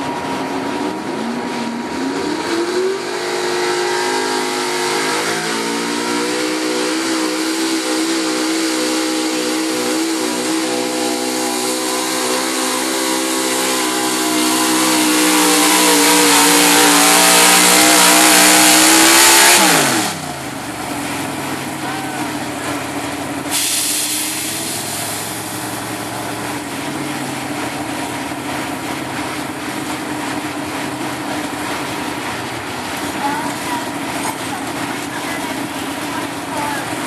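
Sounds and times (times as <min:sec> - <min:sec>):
truck engine revving under load: 0:00.0 - 0:37.0.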